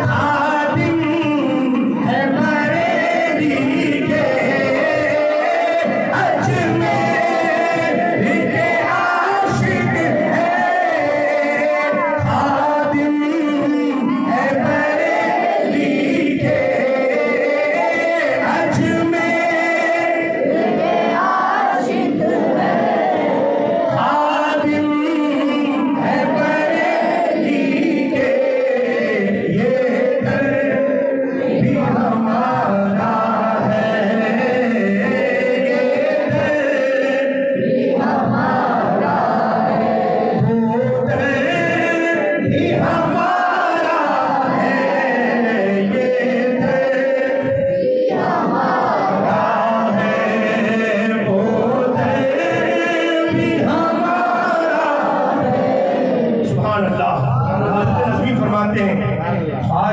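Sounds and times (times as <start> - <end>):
men singing in chorus: 0.0 - 59.9.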